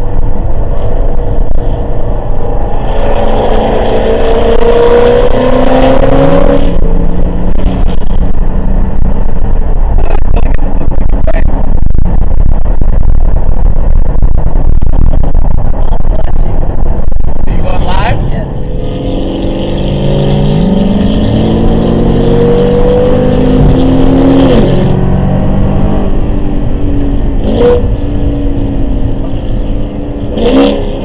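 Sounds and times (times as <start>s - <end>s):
car engine accelerating: 0.0s - 31.0s
road noise: 0.0s - 31.0s
wind noise: 0.0s - 31.0s.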